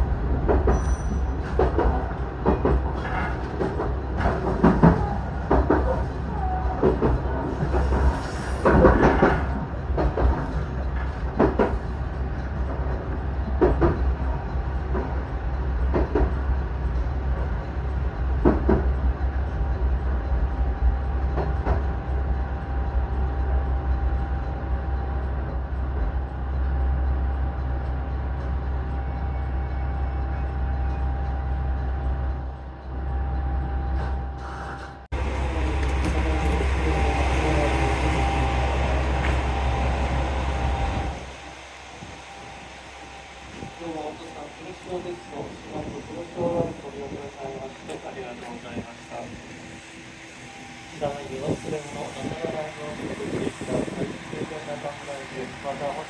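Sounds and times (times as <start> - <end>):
rail-joint clacks: 0.0 - 56.0
train rumbling: 0.0 - 56.0.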